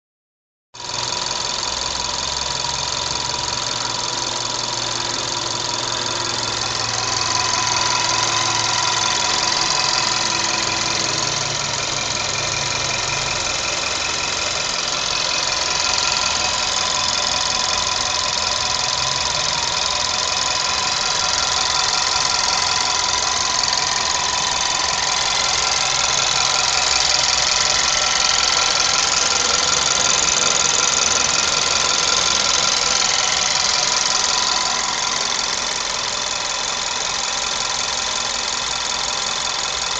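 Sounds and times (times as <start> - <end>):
petrol car engine running: 0.8 - 39.9.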